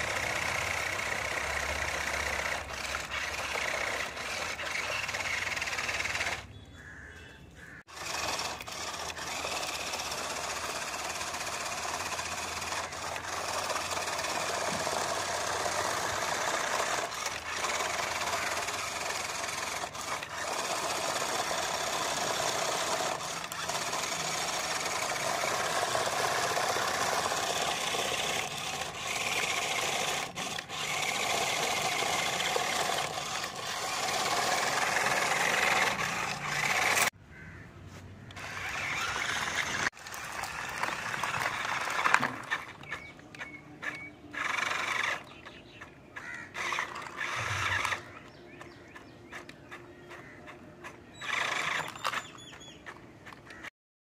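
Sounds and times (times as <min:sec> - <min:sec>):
toy truck motors whining: 0:00.0 - 0:37.2, 0:38.2 - 0:53.7.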